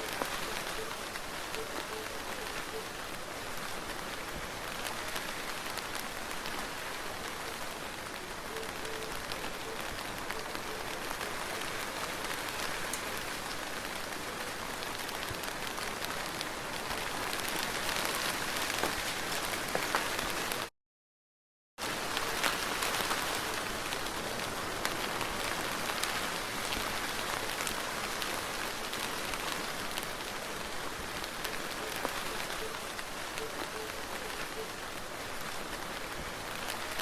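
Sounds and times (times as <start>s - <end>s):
soft rain falling: 0.0s - 20.7s, 21.8s - 37.0s.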